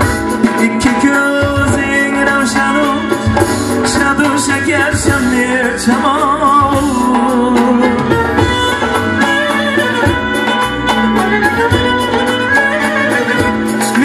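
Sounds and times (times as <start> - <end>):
drum beat: 0.0 - 14.0
pop band music: 0.0 - 14.0.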